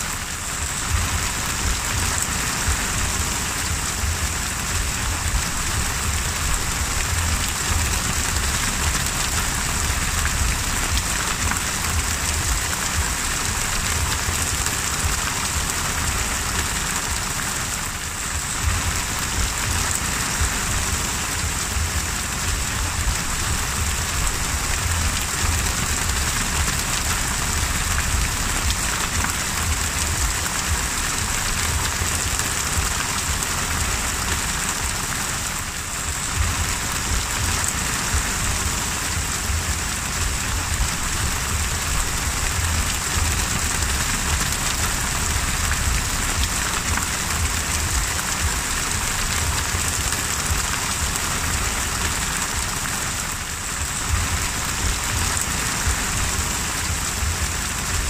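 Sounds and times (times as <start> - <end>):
heavy rain on water: 0.0 - 58.0
low rumble: 0.1 - 35.0, 35.6 - 52.8.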